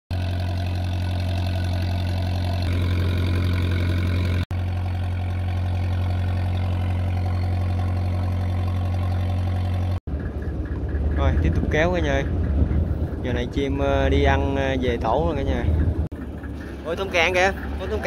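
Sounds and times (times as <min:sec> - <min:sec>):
boat engine running: 0:00.1 - 0:18.0.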